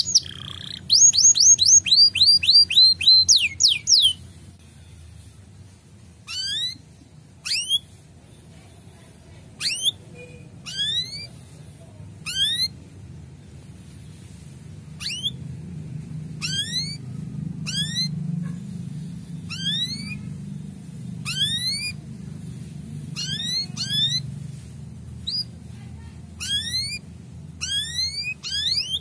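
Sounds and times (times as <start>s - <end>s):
canary chirping: 0.0s - 29.0s
steady low hum: 1.5s - 29.0s.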